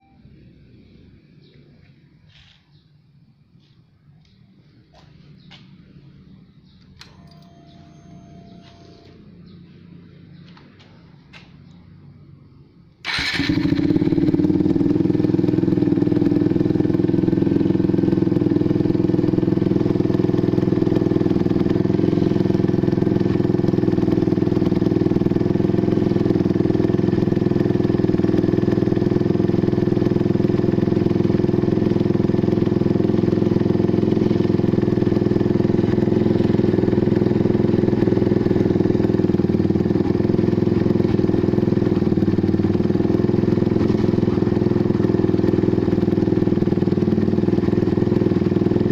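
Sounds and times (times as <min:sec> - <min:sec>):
motorcycle engine idling: 0:03.6 - 0:12.0, 0:13.0 - 0:48.9.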